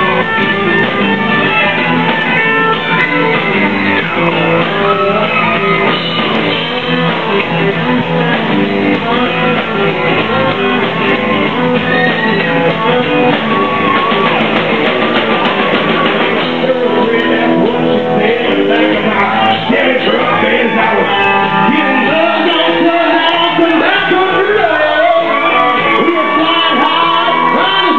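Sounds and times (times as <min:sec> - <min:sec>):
live country-rock band: 0:00.0 - 0:27.9.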